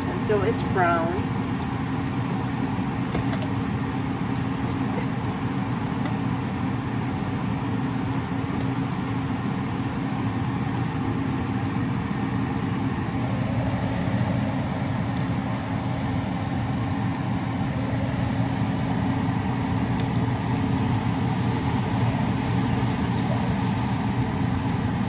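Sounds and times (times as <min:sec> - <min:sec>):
onions frying in oil: 0:00.0 - 0:25.0
steady low hum: 0:00.0 - 0:25.0.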